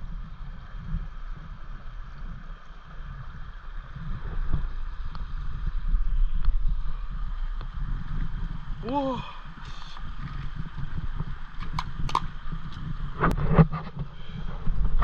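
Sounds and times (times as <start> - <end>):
stream flowing: 0.0 - 15.0
wind on microphone: 0.0 - 15.0.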